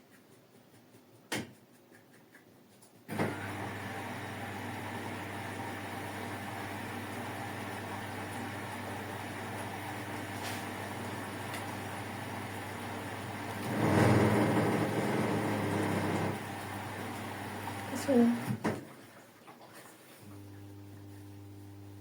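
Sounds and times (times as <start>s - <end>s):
washing machine humming: 3.0s - 22.0s.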